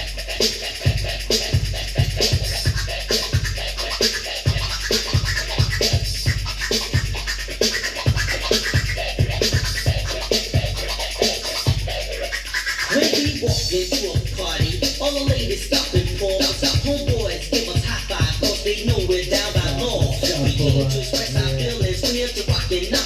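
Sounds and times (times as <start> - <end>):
repeating hip hop drum beat: 0.0 - 23.0
turntable scratching: 0.0 - 23.0.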